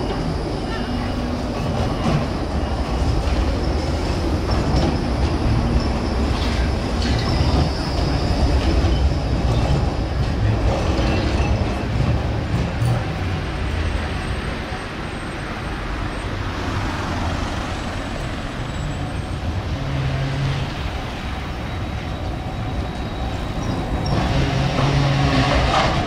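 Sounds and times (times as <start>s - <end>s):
trams rumbling on track: 0.0s - 26.0s
urban traffic noise: 0.0s - 26.0s.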